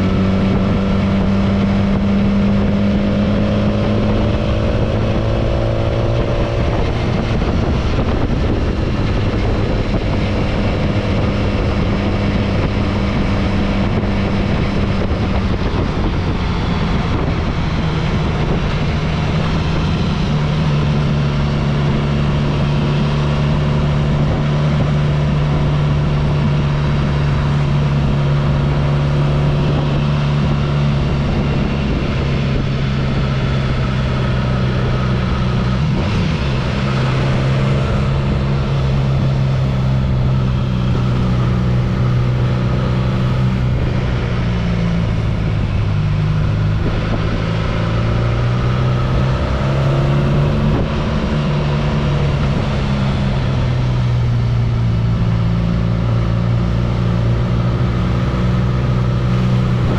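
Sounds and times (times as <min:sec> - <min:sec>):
constant rushing noise: 0:00.0 - 0:59.9
vehicle engine running: 0:00.0 - 0:59.9.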